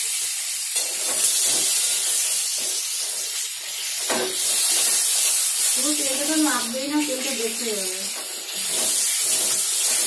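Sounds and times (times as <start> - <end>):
vegetables frying in hot oil: 0.0 - 10.0.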